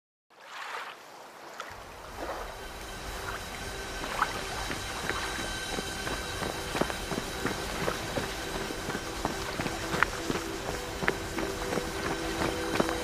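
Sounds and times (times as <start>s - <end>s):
sea waves: 0.3s - 13.0s
wind: 0.3s - 13.0s
faint steady tones: 1.8s - 13.0s
low rumble: 1.8s - 13.0s.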